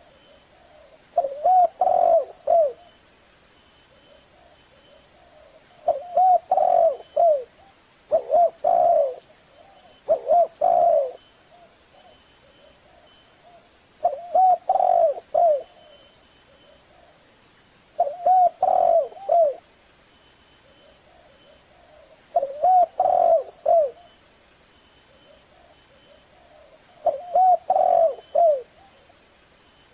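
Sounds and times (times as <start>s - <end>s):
dove cooing: 0.0s - 3.0s, 3.9s - 17.2s, 18.0s - 19.7s, 20.6s - 24.2s, 25.1s - 29.1s.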